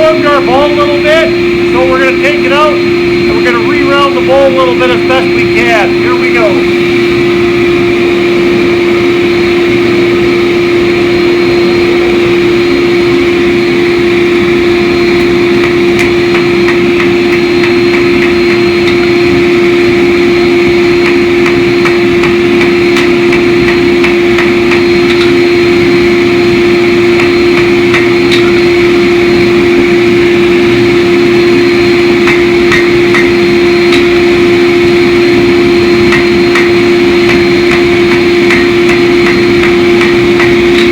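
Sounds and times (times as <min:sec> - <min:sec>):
machine humming: 0:00.0 - 0:40.9.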